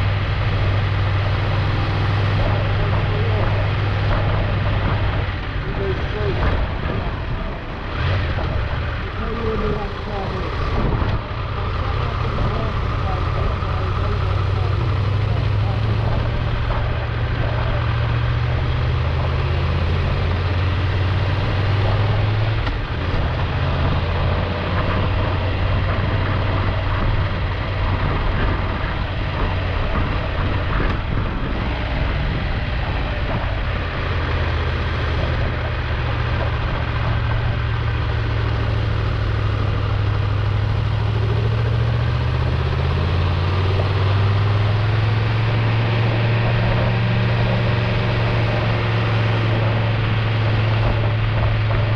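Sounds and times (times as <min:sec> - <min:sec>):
motorcycle engine running: 0:00.0 - 0:51.9
road and wind noise: 0:00.0 - 0:51.9.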